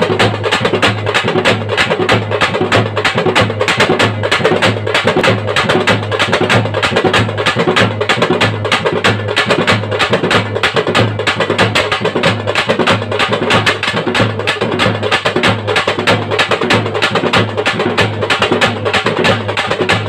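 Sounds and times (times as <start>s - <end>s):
bass drum beating: 0.0s - 20.0s
snare drums played fast: 0.0s - 20.0s.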